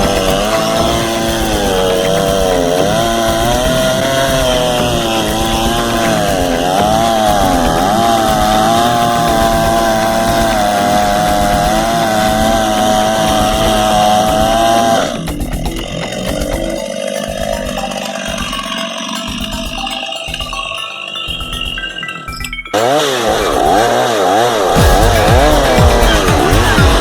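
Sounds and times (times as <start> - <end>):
chainsaw cutting log: 0.0 - 19.8, 22.8 - 27.0.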